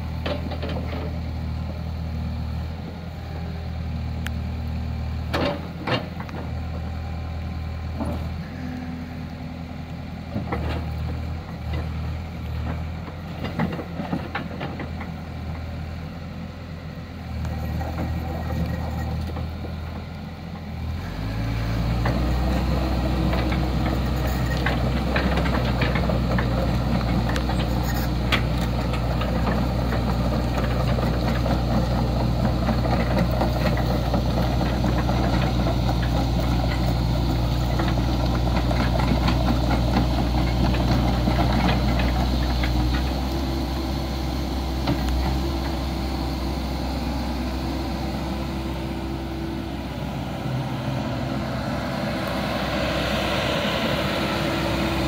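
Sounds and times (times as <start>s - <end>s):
excavator diesel engine idling: 0.0s - 55.0s.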